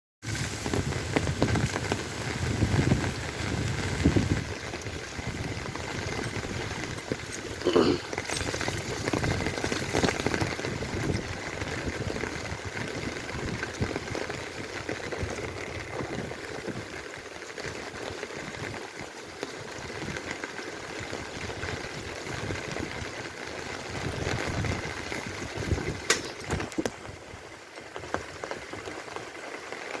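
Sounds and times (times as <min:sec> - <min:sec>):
rain pattering: 0:00.2 - 0:30.0.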